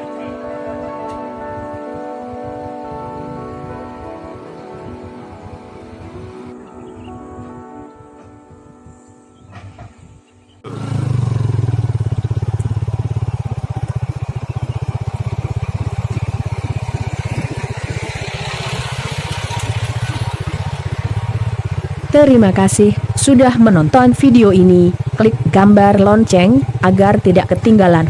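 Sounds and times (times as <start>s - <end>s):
diesel engine pulsing: 0.0s - 7.1s, 10.6s - 28.0s.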